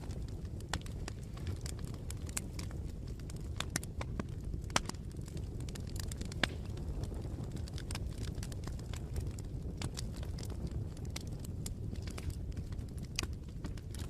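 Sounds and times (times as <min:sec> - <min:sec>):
bonfire crackling: 0:00.0 - 0:14.0
low rumble of flames: 0:00.0 - 0:14.0.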